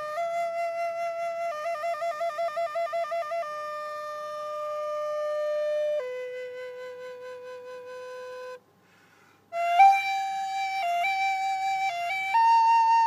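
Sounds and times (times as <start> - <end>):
flute melody: 0.0 - 8.6, 9.5 - 13.0
wooden flute low note: 0.0 - 8.6, 9.5 - 13.0.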